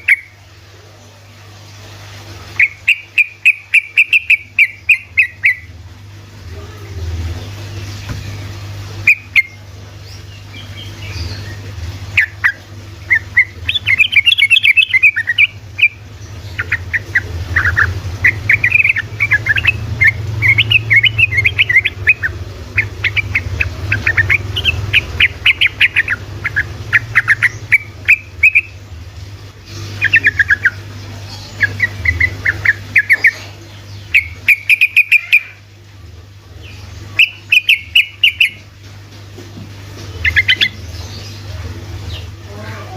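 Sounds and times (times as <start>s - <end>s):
bird chattering song: 0.0s - 0.4s, 2.5s - 5.7s, 8.2s - 28.8s, 29.7s - 35.6s, 36.6s - 38.7s, 40.0s - 42.9s
steady low hum: 0.0s - 42.9s.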